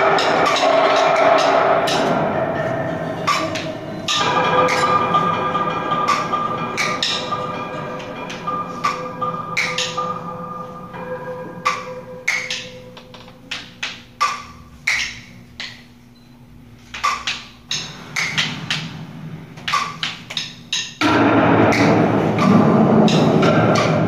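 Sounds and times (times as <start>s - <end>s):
wooden sticks striking: 0.0s - 16.0s, 16.8s - 19.0s, 19.6s - 24.0s.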